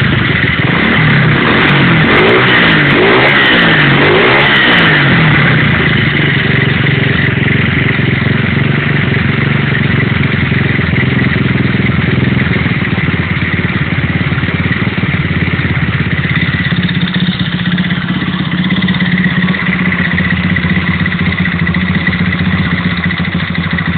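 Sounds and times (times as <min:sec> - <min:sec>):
moped engine idling: 0:00.0 - 0:23.9.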